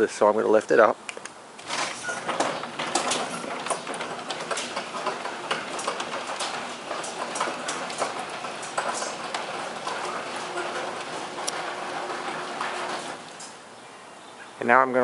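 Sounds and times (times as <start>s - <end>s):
garage door rattling open: 1.6s - 13.8s.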